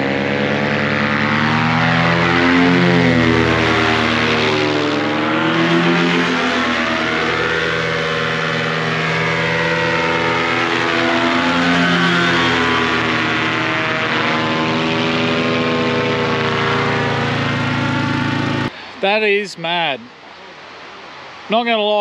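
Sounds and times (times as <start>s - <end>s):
propeller aircraft engine flying past: 0.0s - 19.0s.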